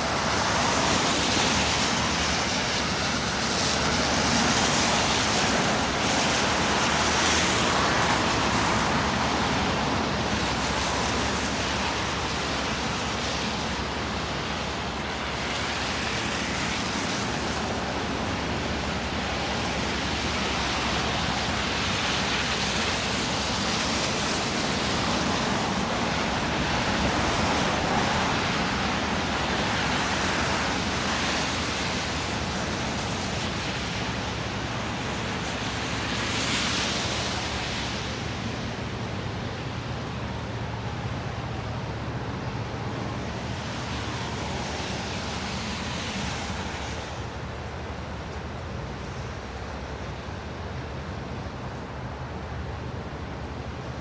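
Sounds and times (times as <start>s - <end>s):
traffic hiss on wet roads: 0.0s - 54.0s.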